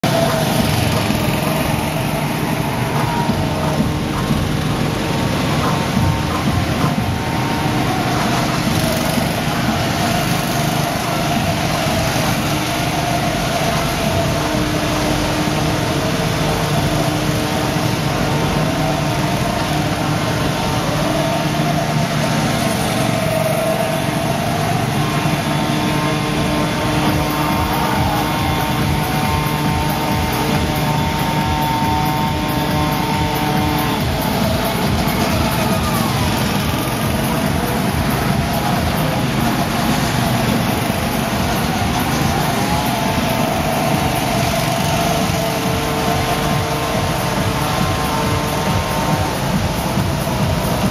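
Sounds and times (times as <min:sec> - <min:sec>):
go-kart engines running: 0:00.0 - 0:50.9.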